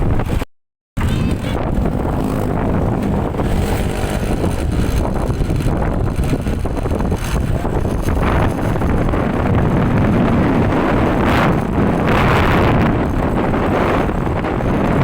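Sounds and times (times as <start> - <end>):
wind buffeting microphone: 0.0 - 0.4, 1.0 - 15.0
bus engine running: 1.0 - 15.0.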